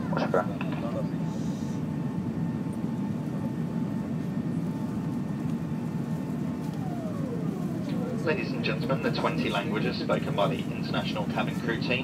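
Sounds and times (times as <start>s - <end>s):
faint steady tone: 0.0s - 11.9s
airliner cabin engine rumble: 0.0s - 12.0s.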